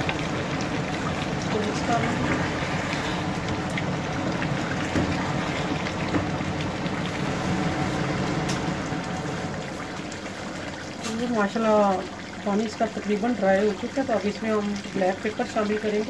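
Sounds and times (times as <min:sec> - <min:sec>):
curry boiling in a pot: 0:00.0 - 0:16.0.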